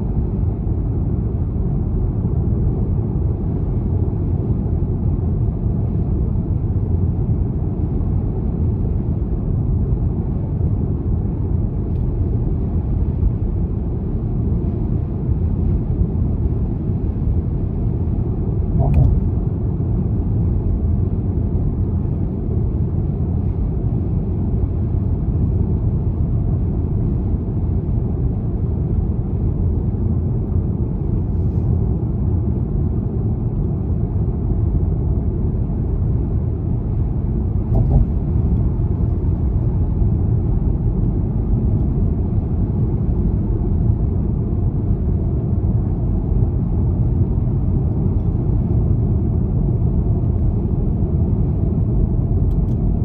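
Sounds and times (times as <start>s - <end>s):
car cruising on road: 0.0s - 53.0s.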